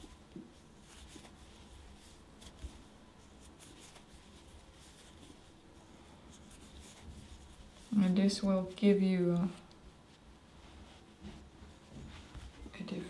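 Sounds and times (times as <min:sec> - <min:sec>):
yarn rustling with crochet hook: 0:00.0 - 0:13.0.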